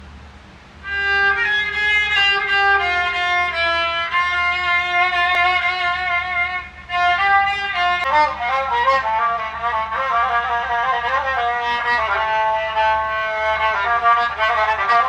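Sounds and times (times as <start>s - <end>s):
bowed fiddle melody: 0.8s - 15.0s.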